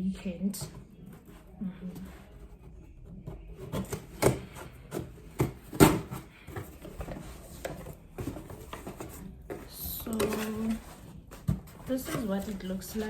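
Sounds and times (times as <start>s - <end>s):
nail file scraping cardboard: 1.1s - 13.0s.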